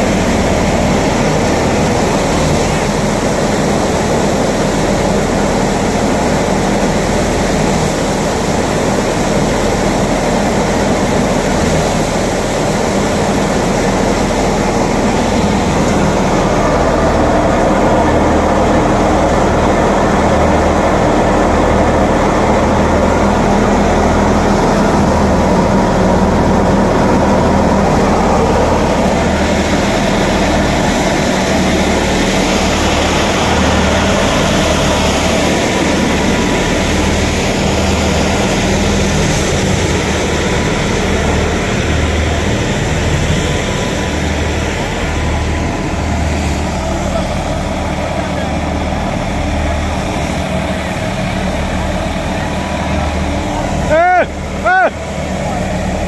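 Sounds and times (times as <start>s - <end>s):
thresher and tractor engine running: 0.0s - 56.0s.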